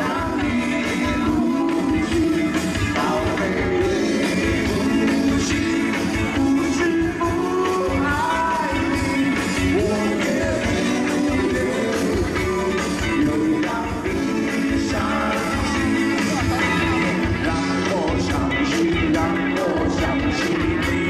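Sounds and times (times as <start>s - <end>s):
live band playing pop song: 0.0s - 21.0s
person singing: 0.0s - 21.0s.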